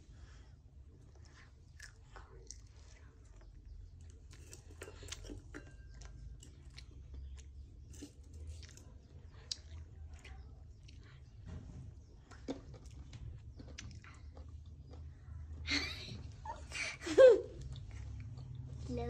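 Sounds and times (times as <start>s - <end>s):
child chewing apple: 0.0s - 15.7s, 16.4s - 19.0s.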